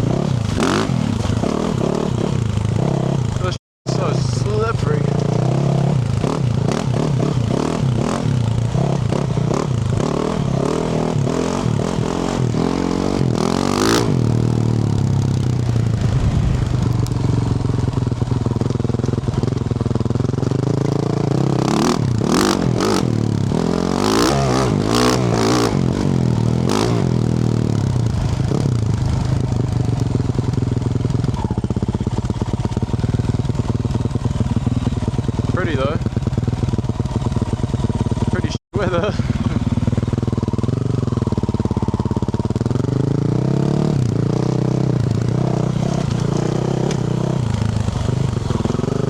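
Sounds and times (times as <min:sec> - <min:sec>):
motorcycle engine revving under load: 0:00.0 - 0:49.0.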